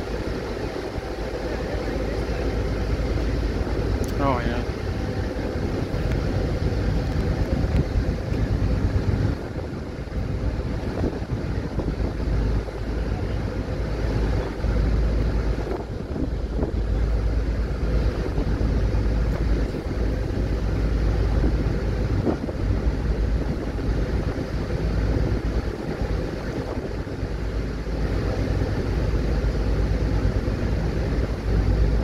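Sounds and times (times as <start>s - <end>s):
ferry engine drone: 0.0s - 32.0s
water washing along hull: 0.0s - 32.0s
wind buffeting microphone: 0.0s - 32.0s.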